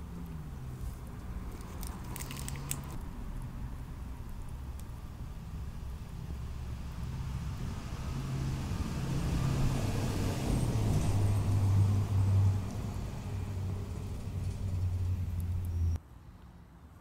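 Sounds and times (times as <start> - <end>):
vehicle engine humming: 0.0 - 16.0
traffic noise: 0.0 - 17.0.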